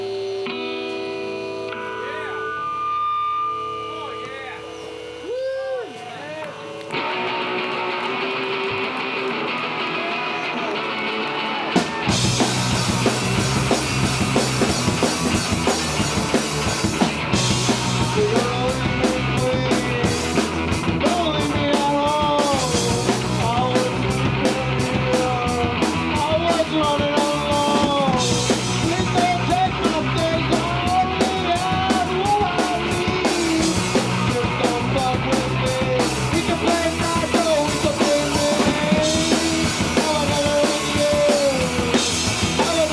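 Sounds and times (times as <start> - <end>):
bass guitar: 0.0 - 42.9
drums: 0.0 - 42.9
electric guitar: 0.0 - 42.9.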